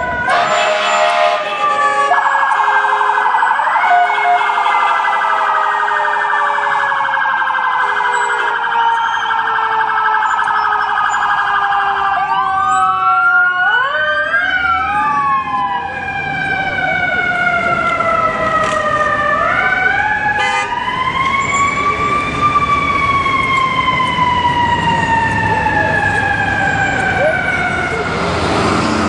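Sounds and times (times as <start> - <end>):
emergency vehicle sirens: 0.0 - 29.0.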